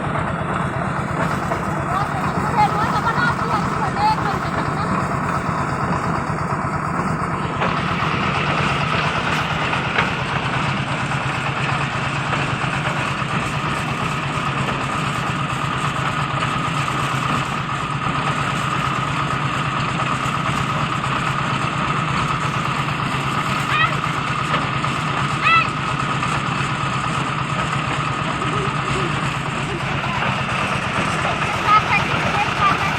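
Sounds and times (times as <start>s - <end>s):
concrete mixer engine rumbling: 0.0s - 32.9s.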